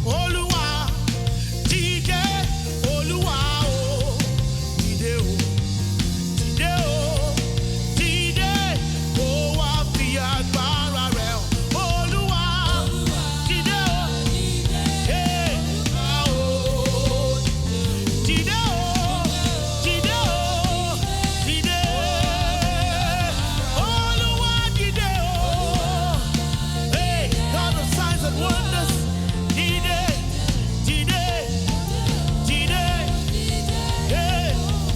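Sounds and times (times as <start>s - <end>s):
band with drum kit and bass: 0.0s - 34.9s
person singing with vibrato: 6.3s - 34.9s.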